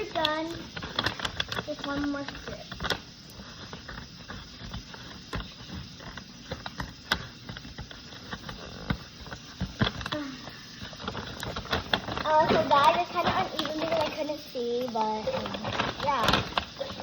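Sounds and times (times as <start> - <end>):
bag rustling: 0.0 - 17.0.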